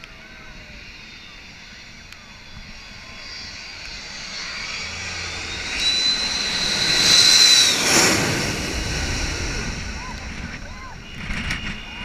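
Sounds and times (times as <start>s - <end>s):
high jet engine whine: 0.0s - 12.0s
jet engines rushing overhead: 0.0s - 12.0s.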